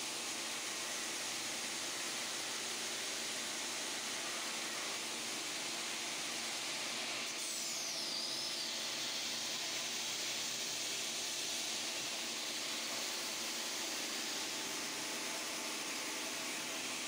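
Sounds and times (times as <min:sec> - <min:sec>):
stone polishing machine whirring: 0:00.0 - 0:17.0.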